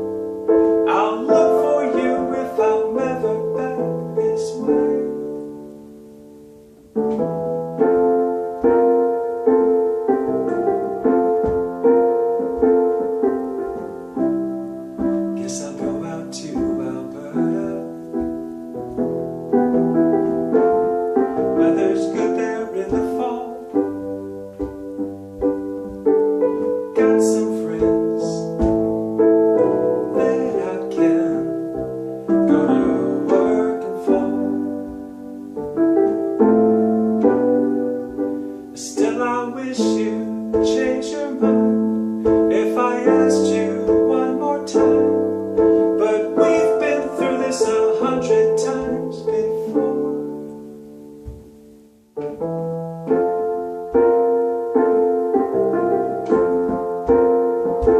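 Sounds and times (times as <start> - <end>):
piano playing chords and melody: 0.0 - 57.9.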